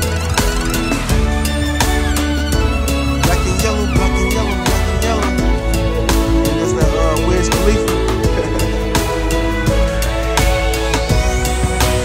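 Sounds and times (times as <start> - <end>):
background music with steady beat: 0.0 - 12.0
high rising sweep: 2.3 - 12.0.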